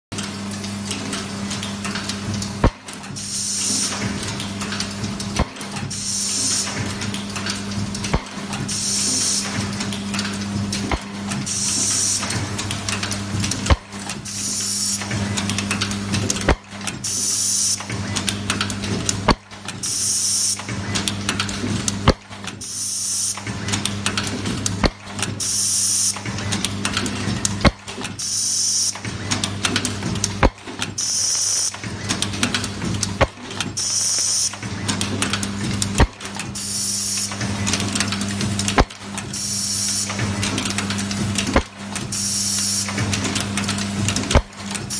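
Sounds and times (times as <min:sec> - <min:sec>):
mechanical clacks: 0:00.1 - 0:44.9
machine humming: 0:00.2 - 0:44.9.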